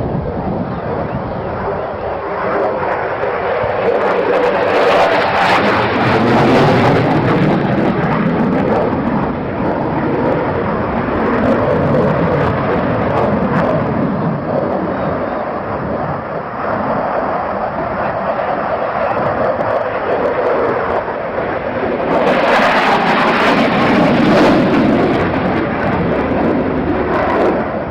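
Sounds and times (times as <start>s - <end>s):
aircraft engine noise: 0.0s - 27.9s.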